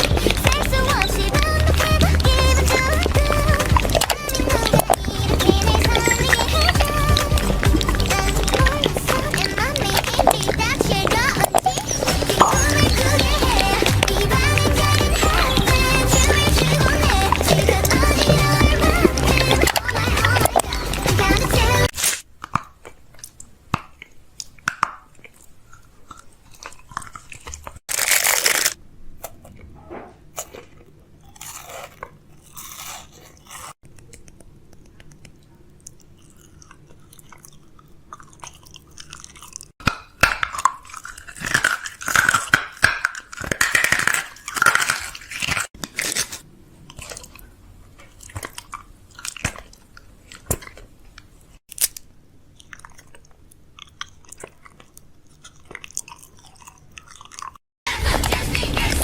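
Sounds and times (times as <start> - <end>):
close crunching and clicking: 0.0 - 59.0.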